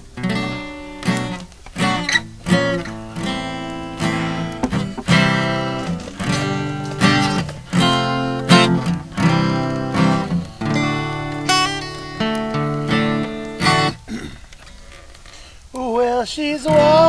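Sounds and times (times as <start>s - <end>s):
acoustic guitar strumming chords: 0.2s - 14.2s, 16.7s - 17.0s.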